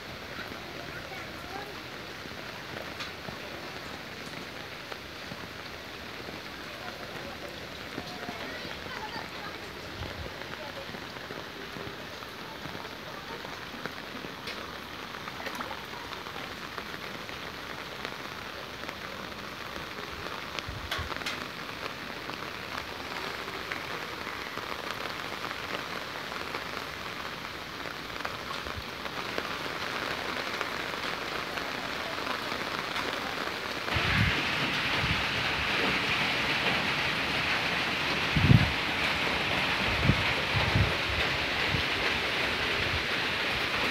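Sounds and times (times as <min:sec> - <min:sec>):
heavy rain on water: 0:00.0 - 0:43.9.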